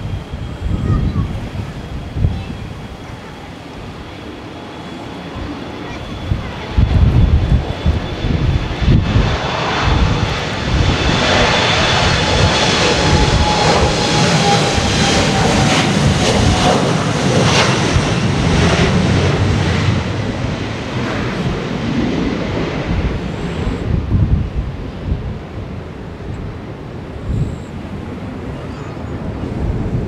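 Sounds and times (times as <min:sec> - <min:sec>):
wind on microphone: 0:00.0 - 0:04.3, 0:05.2 - 0:30.0
jet engines roaring with whine: 0:00.0 - 0:30.0.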